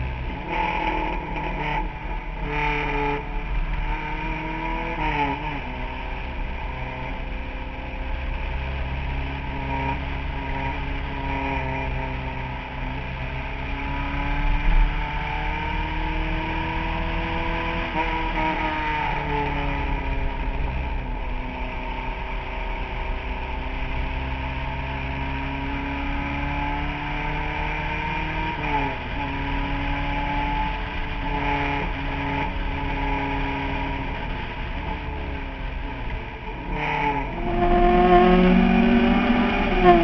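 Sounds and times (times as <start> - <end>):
race car engine at speed: 0.0 - 40.0.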